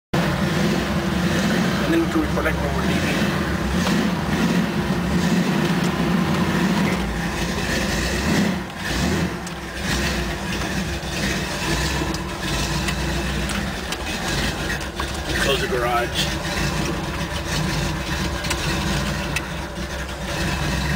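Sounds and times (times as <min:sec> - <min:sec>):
truck engine running: 0:00.1 - 0:20.9.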